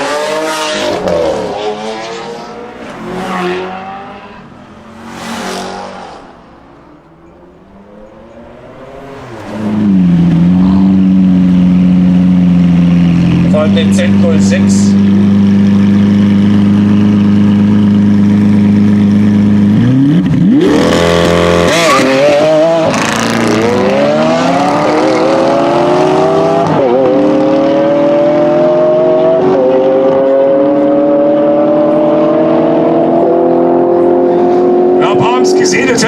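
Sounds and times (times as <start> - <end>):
sports car engine accelerating: 0.0 - 36.0.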